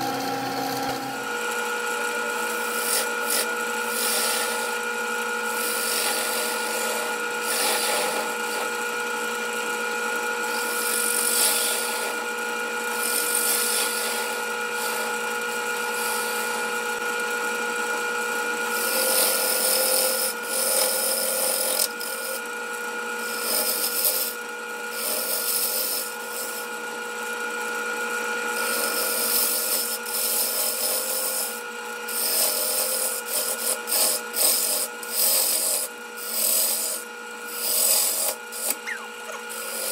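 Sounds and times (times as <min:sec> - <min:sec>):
gouge cutting wood: 0:00.0 - 0:08.9, 0:10.3 - 0:17.0, 0:18.7 - 0:22.5, 0:23.2 - 0:26.8, 0:28.5 - 0:39.9
wood lathe motor whine: 0:00.0 - 0:39.9.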